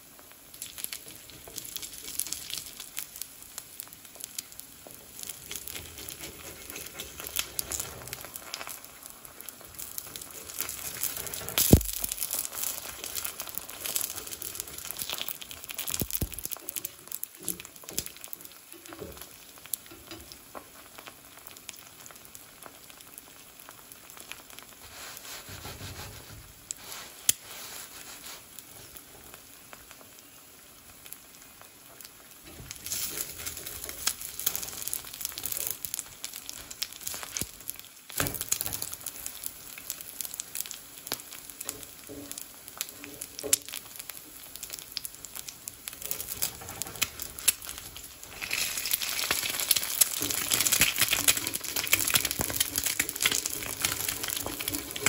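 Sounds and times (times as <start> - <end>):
oil popping and crackling: 0.0 - 55.0
oil sizzling in a pan: 0.0 - 55.0.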